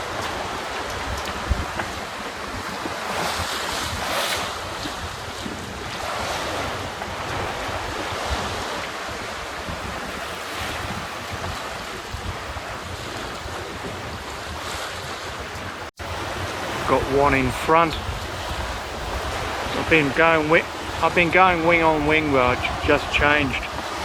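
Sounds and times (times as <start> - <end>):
water rushing past boat hull: 0.0 - 24.0
wind buffeting microphone: 0.0 - 24.0.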